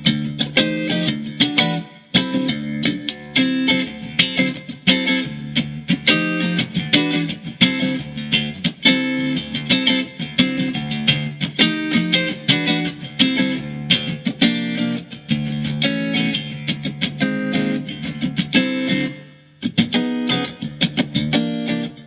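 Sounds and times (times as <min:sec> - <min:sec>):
electric guitar picked and strummed: 0:00.0 - 0:22.0.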